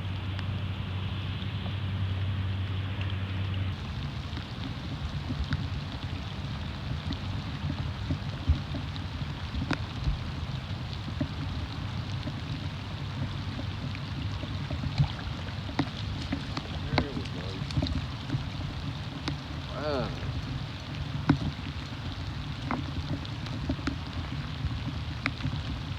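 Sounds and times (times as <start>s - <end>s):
light rain sprinkling: 0.0s - 25.9s
wind rumble on microphone: 0.0s - 25.9s.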